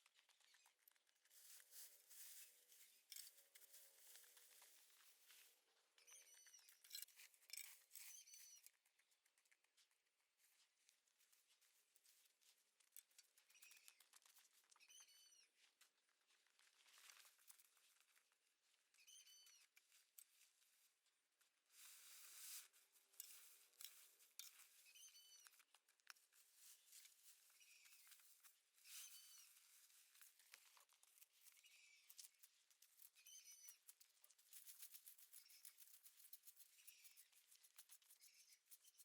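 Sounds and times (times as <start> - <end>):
faint clicks and rustling: 0.0 - 39.0.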